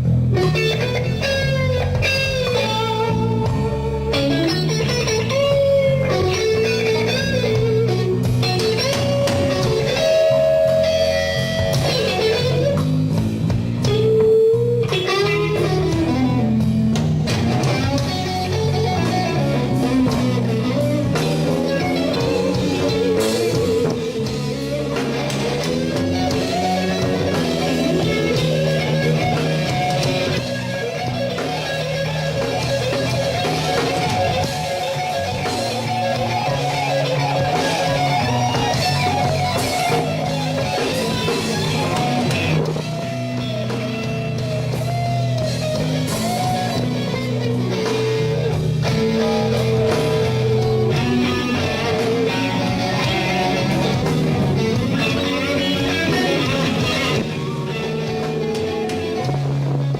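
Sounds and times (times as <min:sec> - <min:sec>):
bass guitar: 0:00.0 - 0:59.9
electric guitar lead: 0:00.0 - 0:59.9.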